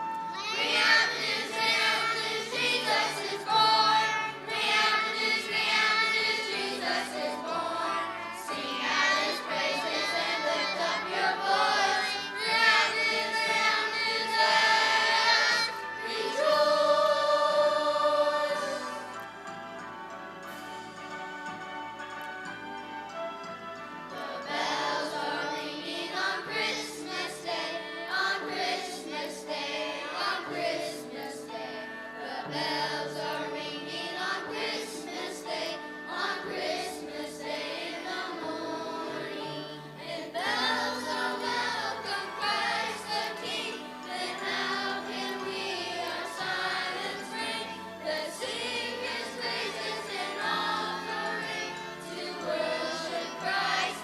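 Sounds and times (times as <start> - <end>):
choir singing: 0.0 - 19.2, 24.1 - 54.0
instrumental accompaniment: 0.0 - 54.0.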